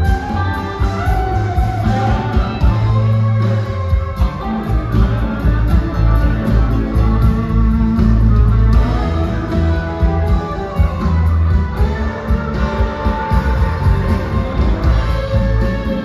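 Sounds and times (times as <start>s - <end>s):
bass notes: 0.0s - 16.0s
electric guitars: 0.0s - 16.0s.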